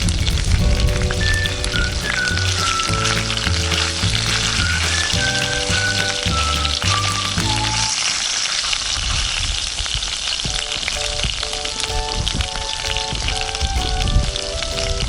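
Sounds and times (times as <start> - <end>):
light background melody: 0.0 - 8.0, 10.5 - 15.0.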